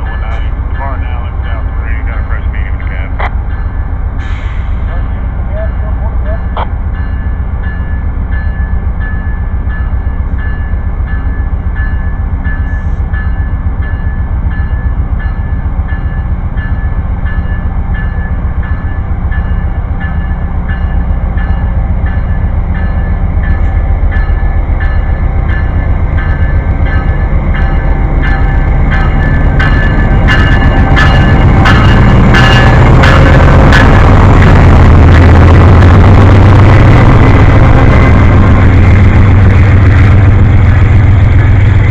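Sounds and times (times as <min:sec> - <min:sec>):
rhythmic clicking of train wheels: 0:00.0 - 0:41.9
train rumbling on rails: 0:00.0 - 0:41.9.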